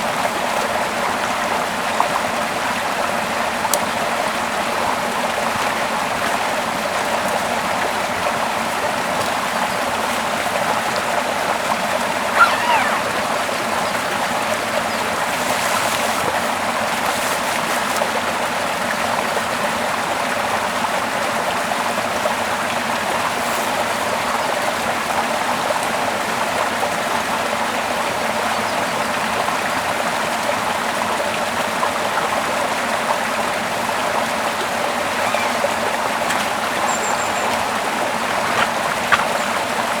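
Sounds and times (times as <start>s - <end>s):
stream rushing over rocks: 0.0s - 40.0s.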